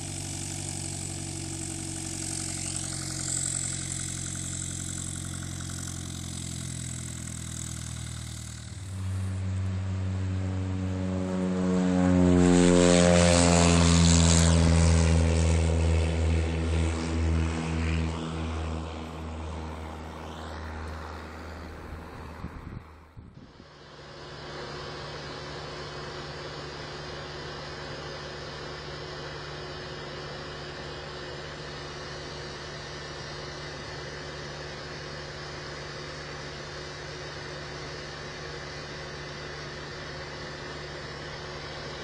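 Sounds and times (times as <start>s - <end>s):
light aircraft engine and propeller: 0.0s - 42.0s.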